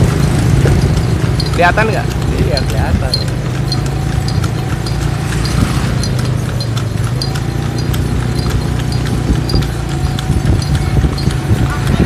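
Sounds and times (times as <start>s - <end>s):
horse hooves on paved road: 0.0s - 12.0s.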